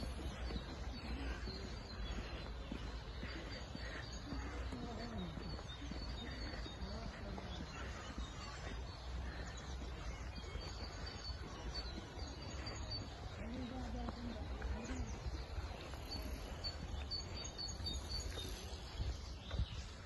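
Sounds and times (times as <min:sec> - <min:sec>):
faint distant voices: 0:00.0 - 0:20.0
small birds chirping: 0:00.0 - 0:20.0.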